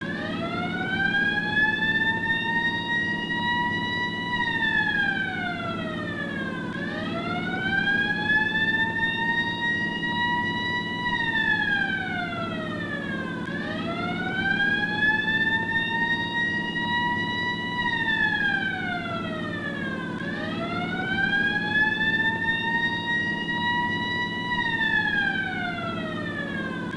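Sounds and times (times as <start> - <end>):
ambulance siren wailing: 0.0 - 26.9
steady low hum: 0.0 - 26.9.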